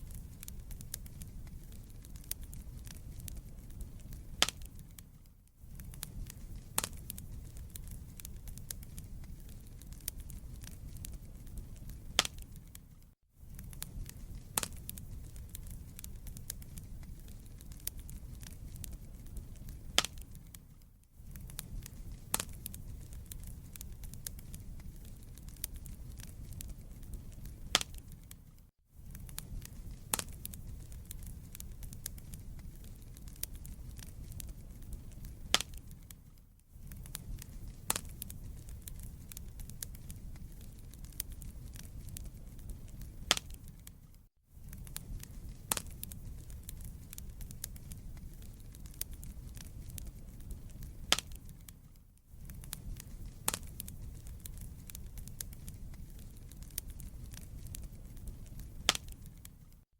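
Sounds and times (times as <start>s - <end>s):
low rumble of flames: 0.0s - 59.8s
logs crackling and popping: 0.0s - 59.9s.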